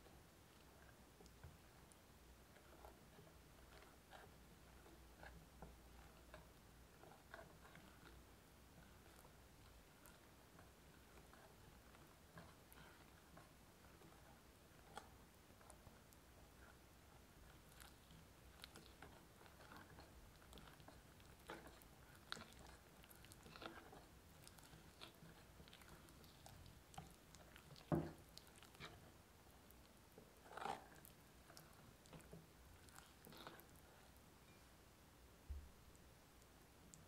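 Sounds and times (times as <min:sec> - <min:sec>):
whisk squelching in batter: 0:00.0 - 0:34.3.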